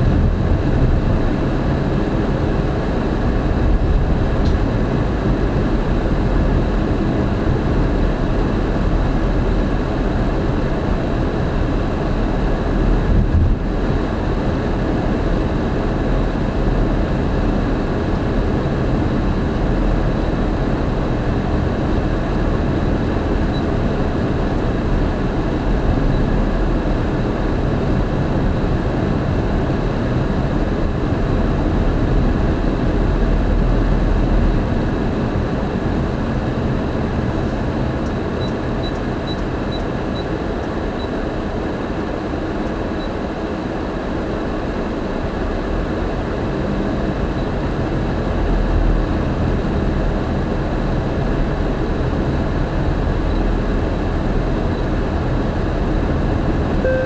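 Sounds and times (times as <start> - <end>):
car cabin road noise: 0.0 - 57.0.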